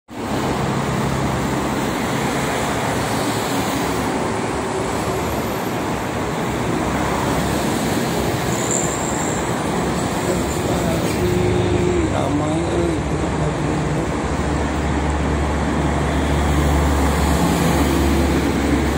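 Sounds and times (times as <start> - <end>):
motorway traffic tyres rushing: 0.1 - 18.9.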